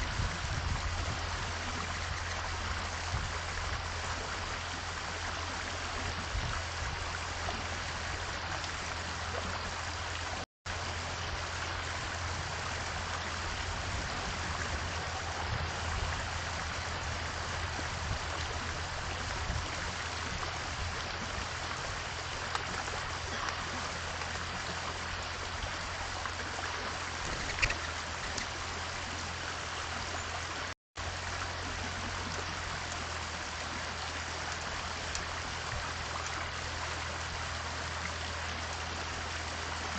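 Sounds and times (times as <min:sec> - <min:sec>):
rushing water noise: 0:00.0 - 0:39.9.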